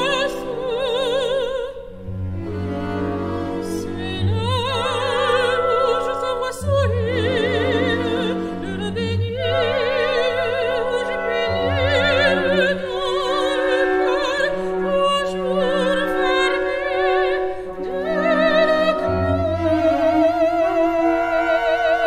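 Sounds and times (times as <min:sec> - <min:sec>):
sustained orchestral notes: 0:00.0 - 0:22.0.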